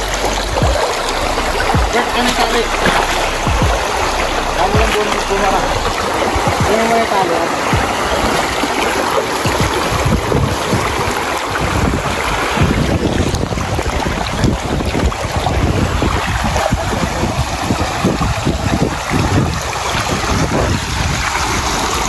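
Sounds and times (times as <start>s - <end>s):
rushing river water: 0.0s - 22.0s
wind buffeting microphone: 0.0s - 22.0s.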